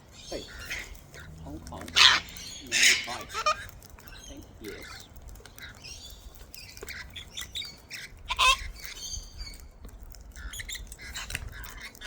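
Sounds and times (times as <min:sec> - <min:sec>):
cockatoos squawking and chattering: 0:00.0 - 0:12.0.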